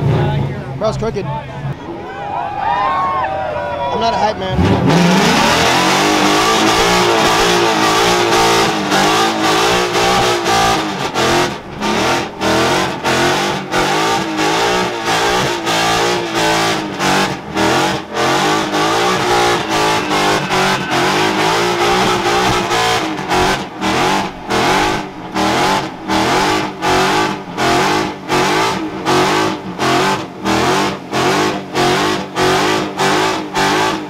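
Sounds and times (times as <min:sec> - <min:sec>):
car engine at high revs: 0:04.0 - 0:34.0.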